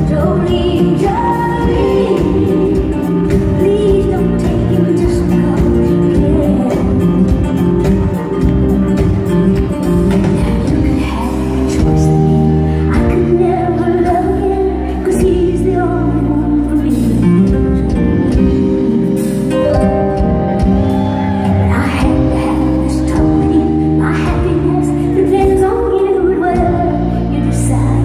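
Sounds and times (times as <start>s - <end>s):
woman singing: 0.0s - 9.1s, 9.9s - 20.2s, 21.4s - 28.0s
country band playing: 0.0s - 28.0s.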